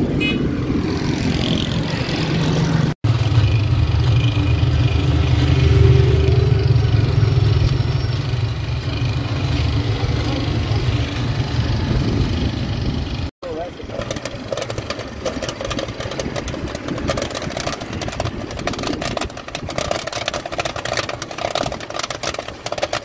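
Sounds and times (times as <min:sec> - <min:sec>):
street traffic: 0:00.0 - 0:23.0
low engine rumble: 0:02.8 - 0:23.0.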